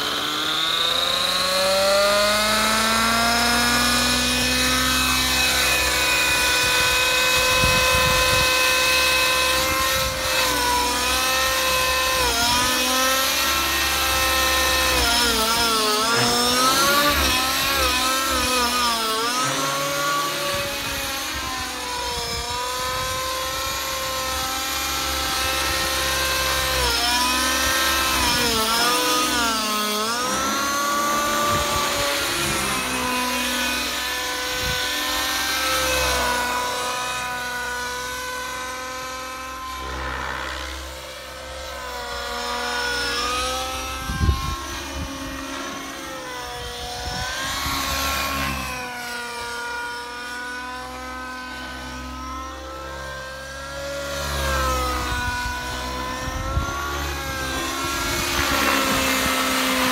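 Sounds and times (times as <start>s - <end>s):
model helicopter engine whine: 0.0s - 59.9s.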